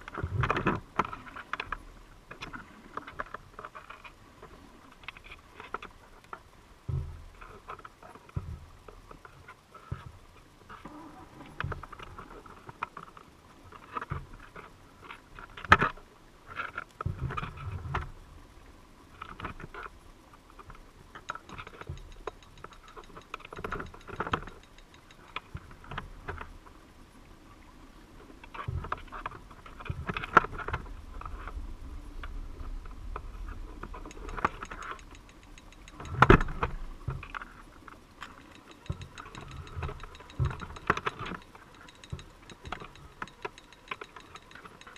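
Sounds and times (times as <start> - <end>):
underwater clicks and knocks: 0.0 - 18.2, 19.2 - 26.8, 28.4 - 44.9.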